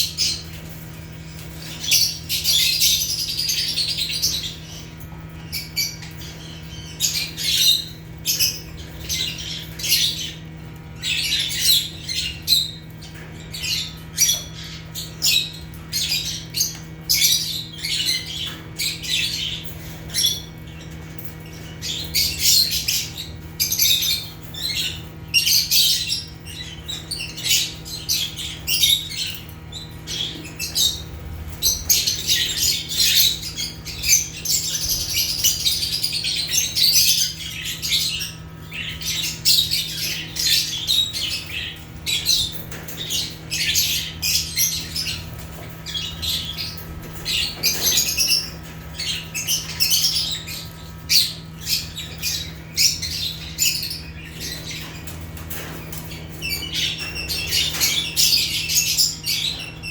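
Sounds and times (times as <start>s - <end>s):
lovebirds chirping and squawking: 0.0s - 59.9s
steady low hum: 0.0s - 59.9s.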